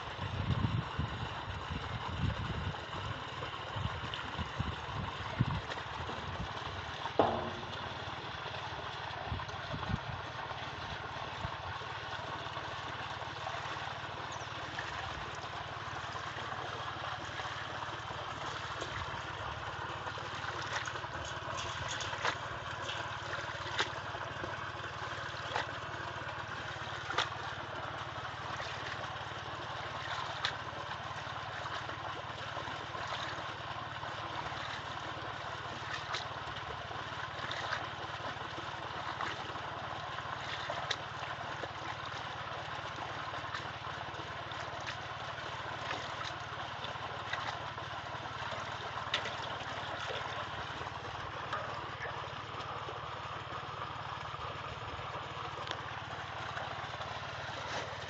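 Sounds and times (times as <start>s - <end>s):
low motor hum: 0.0s - 58.0s
water splashing and sloshing: 0.0s - 58.0s.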